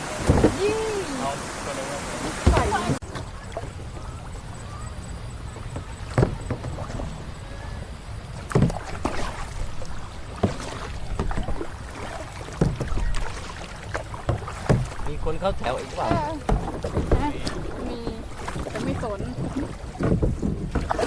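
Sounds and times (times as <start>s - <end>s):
paddle splashing in water: 0.0s - 21.0s.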